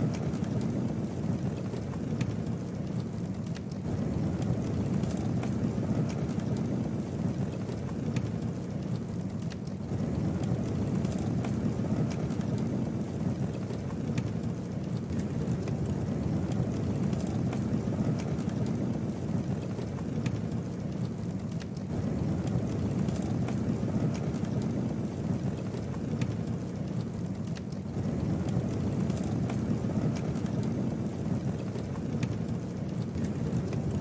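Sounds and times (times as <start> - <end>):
burning wood crackling and popping: 0.0 - 34.0
campfire flames rushing: 0.0 - 34.0.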